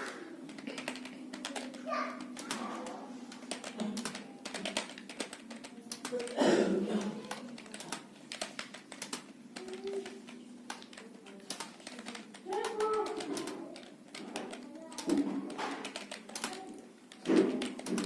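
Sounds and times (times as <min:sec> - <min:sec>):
computer keyboard typing: 0:00.0 - 0:18.0.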